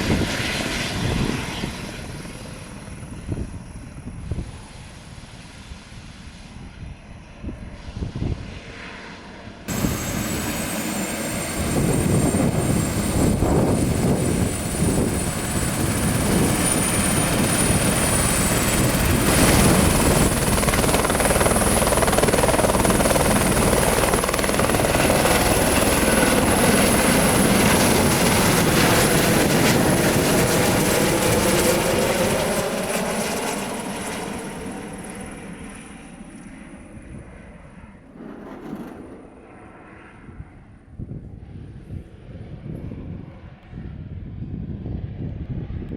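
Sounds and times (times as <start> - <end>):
helicopter rotor noise: 0.0 - 6.2, 9.3 - 40.8
helicopter turbine whining: 0.0 - 7.8, 8.5 - 42.2.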